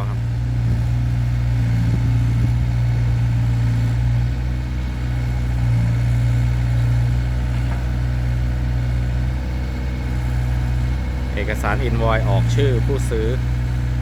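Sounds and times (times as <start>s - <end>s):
diesel engine low drone: 0.0s - 14.0s.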